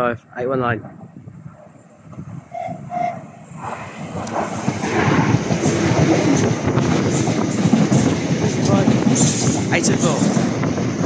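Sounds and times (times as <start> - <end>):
train wheel and track rumble: 0.8 - 11.0.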